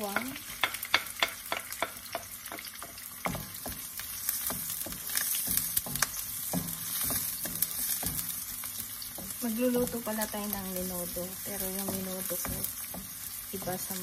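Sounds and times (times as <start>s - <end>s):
onion sizzling in oil: 0.0s - 14.0s
wooden spoon scraping and knocking pan: 0.1s - 14.0s.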